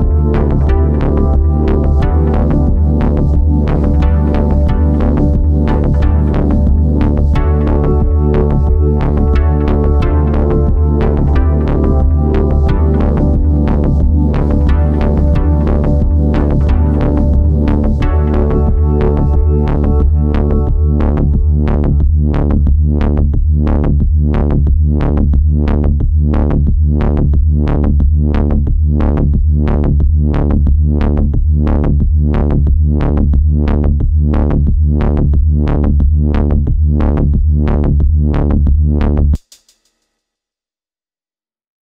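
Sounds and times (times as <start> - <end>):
electronic music beat: 0.0 - 39.4
held low bass: 0.0 - 39.4.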